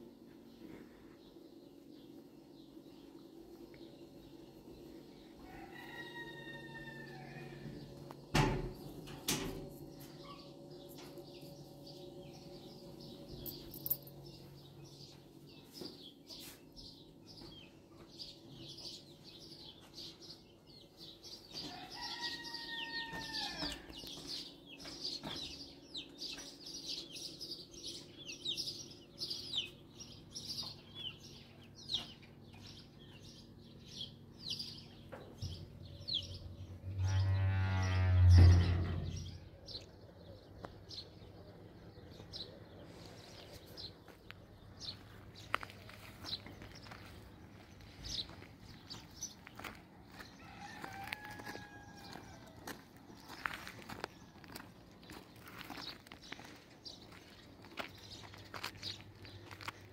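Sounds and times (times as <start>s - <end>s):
small birds chirping: 9.8s - 38.0s, 39.2s - 59.9s.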